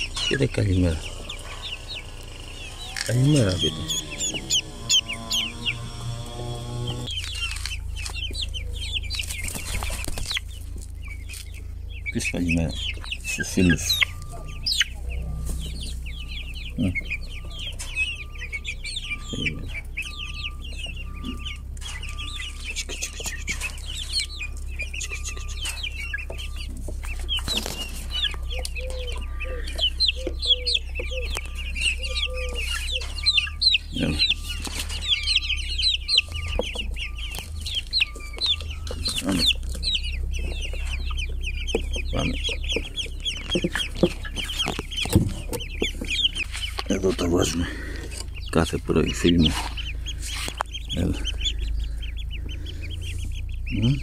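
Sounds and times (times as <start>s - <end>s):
chicks and ducklings peeping: 0.0s - 54.0s
hens clucking: 0.0s - 54.0s.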